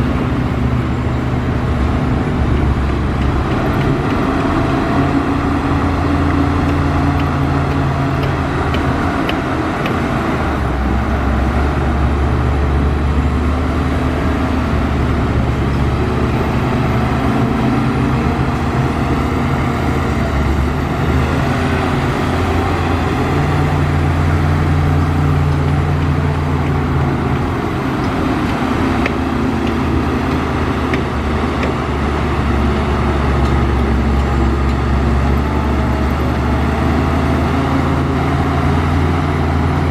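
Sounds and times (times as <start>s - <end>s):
diesel machinery engine under load: 0.0s - 39.9s.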